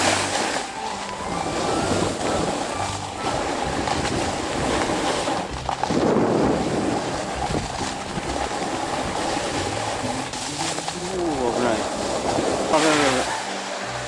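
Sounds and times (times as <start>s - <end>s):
wind buffeting microphone: 0.7s - 13.2s.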